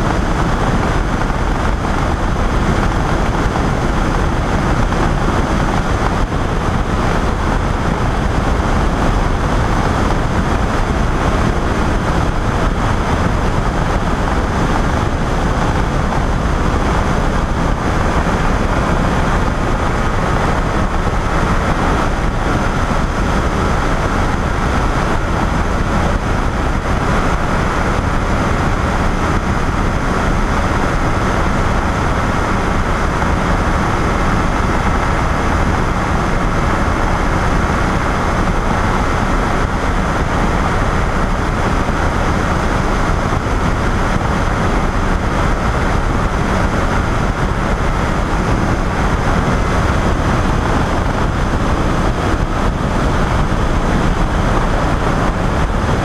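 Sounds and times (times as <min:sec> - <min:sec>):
aircraft engine drone: 0:00.0 - 0:56.0
rush of air: 0:00.0 - 0:56.0.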